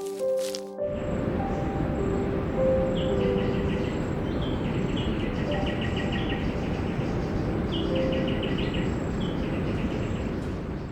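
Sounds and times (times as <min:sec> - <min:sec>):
steady noisy background: 0:00.9 - 0:10.9
bird calling: 0:01.0 - 0:10.9.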